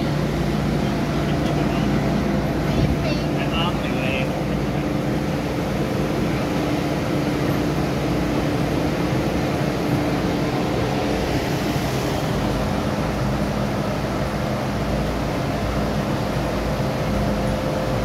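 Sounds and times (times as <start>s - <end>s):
train air-conditioning hum: 0.0s - 18.0s.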